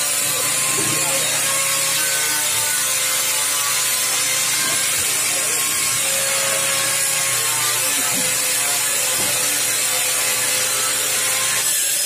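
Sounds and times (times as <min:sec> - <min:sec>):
angle grinder cutting steel: 0:00.0 - 0:12.0.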